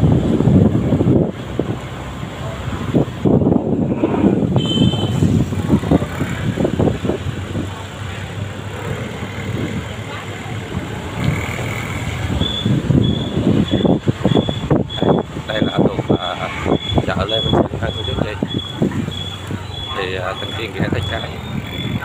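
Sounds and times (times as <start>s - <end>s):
wind buffeting microphone: 0.0s - 22.0s
scooter engine running: 2.0s - 22.0s.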